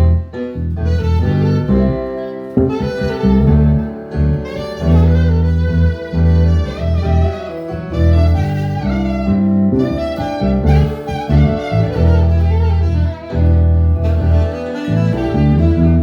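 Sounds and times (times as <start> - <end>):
deep bass notes: 0.0 - 16.0.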